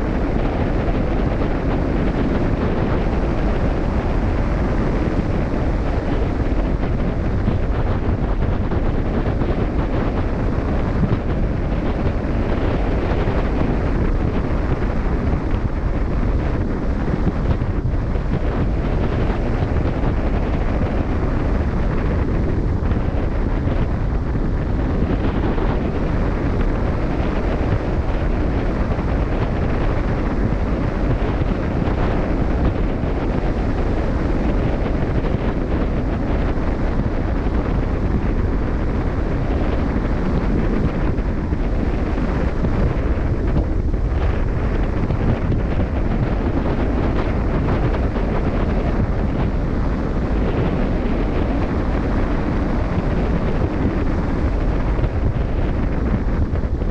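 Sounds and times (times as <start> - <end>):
rush of open sea: 0.0 - 56.9
wind noise on microphone: 0.0 - 56.9.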